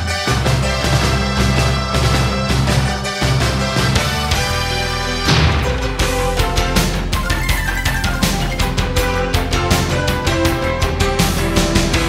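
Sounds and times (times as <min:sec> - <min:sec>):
rock music with fast drum beat: 0:00.0 - 0:12.0.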